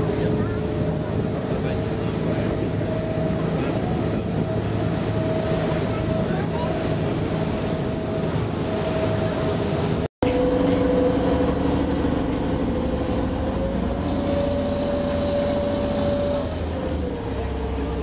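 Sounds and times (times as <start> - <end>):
boat engine humming and rumbling: 0.0 - 18.0.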